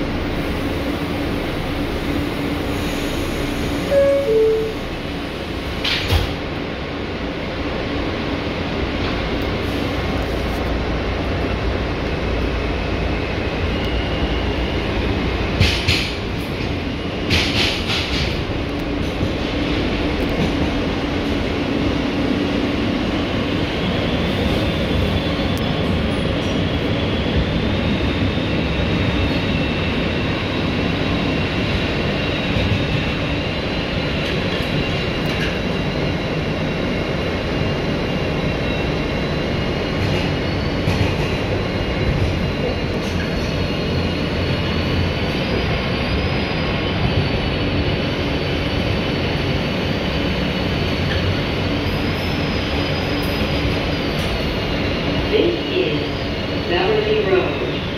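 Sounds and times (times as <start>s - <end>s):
wheels rumbling on rail: 0.0s - 57.9s.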